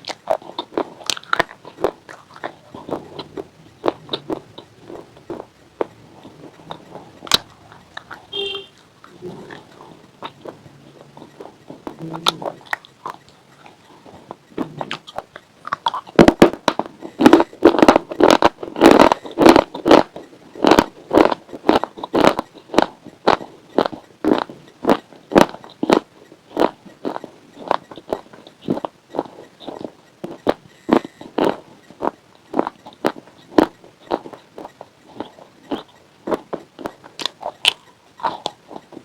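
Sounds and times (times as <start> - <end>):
crunching and chewing chips: 0.0 - 39.0.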